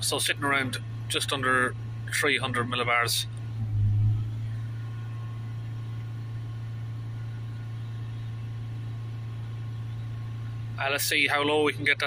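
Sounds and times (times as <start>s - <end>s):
diesel engine at raised revs: 0.0s - 12.0s.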